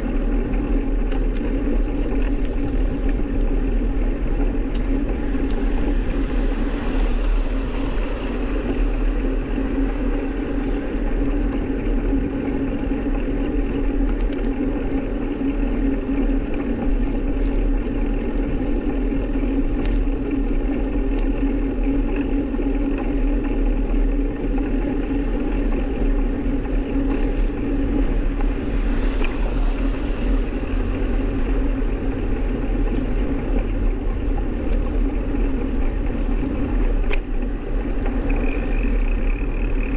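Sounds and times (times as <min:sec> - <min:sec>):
low droning hum: 0:00.0 - 0:39.9
wind rumbling on microphone: 0:00.0 - 0:39.9.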